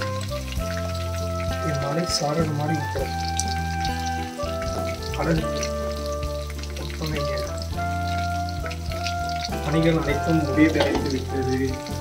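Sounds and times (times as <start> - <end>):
background music of held chords: 0.0 - 12.0
food sizzling in hot oil: 0.0 - 12.0.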